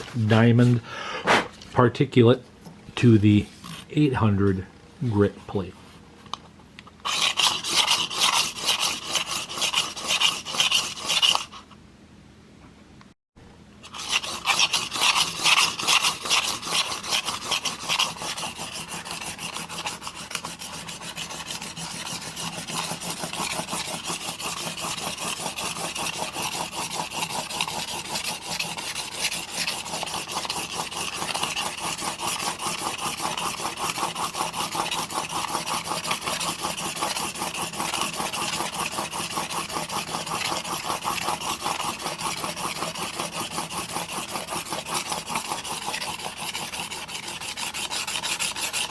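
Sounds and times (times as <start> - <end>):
blade rasping on sharpening plate: 7.0 - 11.6, 13.8 - 48.9.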